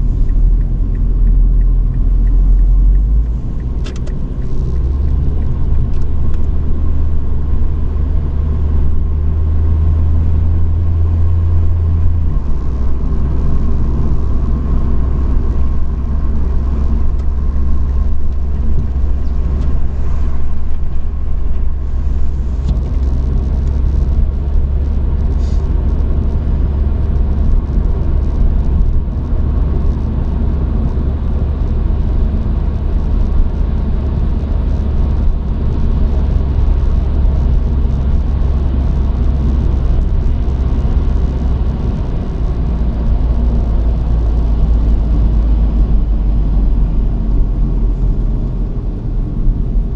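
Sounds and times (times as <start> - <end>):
truck engine and road rumble: 0.0 - 49.9.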